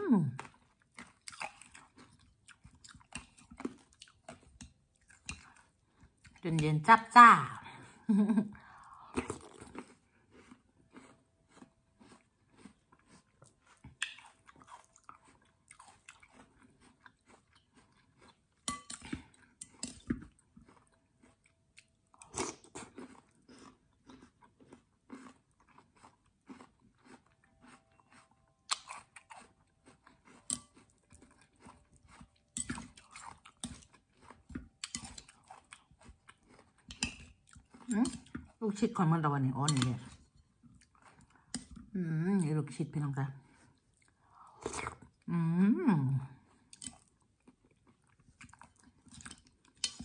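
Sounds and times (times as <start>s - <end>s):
crunching and chewing: 0.3s - 6.4s, 8.8s - 38.6s, 39.7s - 42.0s, 43.4s - 45.3s, 46.2s - 50.0s.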